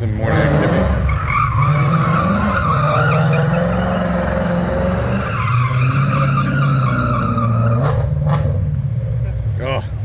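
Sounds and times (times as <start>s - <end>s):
car engine at high revs: 0.0s - 10.0s
tires squealing: 0.1s - 10.0s.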